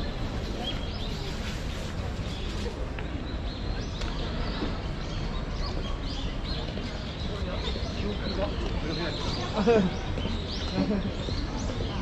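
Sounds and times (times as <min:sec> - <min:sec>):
indistinct chatter: 0:00.0 - 0:12.0
small birds chirping: 0:00.3 - 0:12.0.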